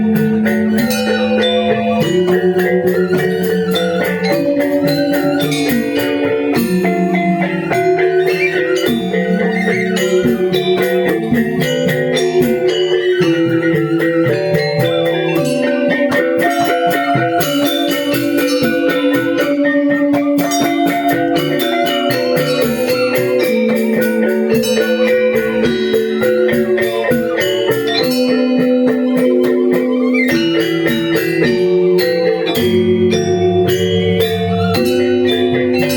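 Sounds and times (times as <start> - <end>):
gamelan ensemble playing: 0.0 - 35.9.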